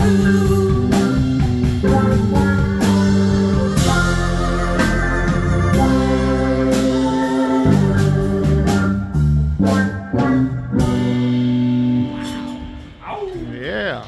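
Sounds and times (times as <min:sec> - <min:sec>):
electric guitar: 0:00.0 - 0:13.0
bass guitar: 0:00.0 - 0:14.0
organ chords: 0:00.0 - 0:14.0.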